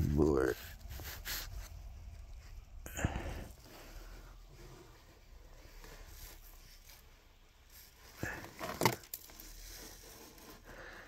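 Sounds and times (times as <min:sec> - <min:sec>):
rustling handling noise: 0:00.0 - 0:11.0.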